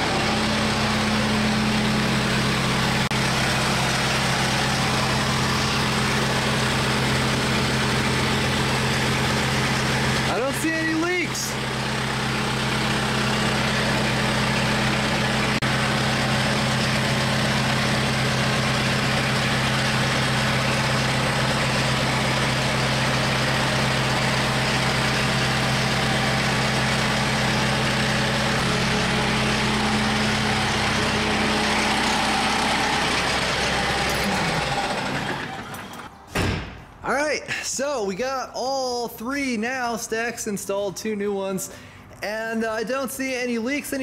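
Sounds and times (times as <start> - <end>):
tractor diesel engine idling: 0.0 - 36.1.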